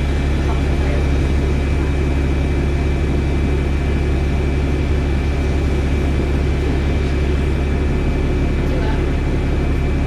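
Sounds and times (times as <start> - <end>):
bus engine drone: 0.0 - 10.0
high whirring whine: 0.0 - 10.0.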